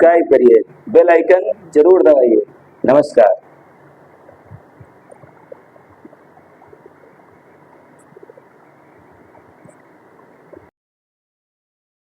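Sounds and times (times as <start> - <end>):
faint background noise: 0.0 - 10.7.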